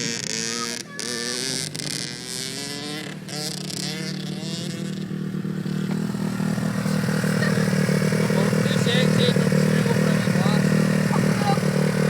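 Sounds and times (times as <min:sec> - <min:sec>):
pit bike engine running: 0:00.0 - 0:12.0.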